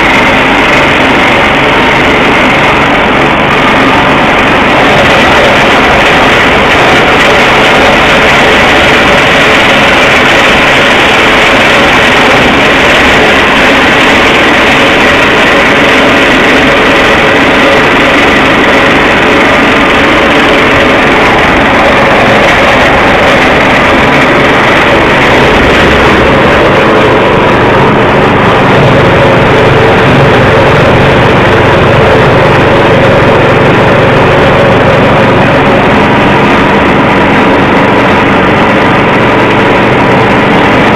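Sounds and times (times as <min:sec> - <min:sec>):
forage chopper machine running: 0:00.0 - 0:40.9.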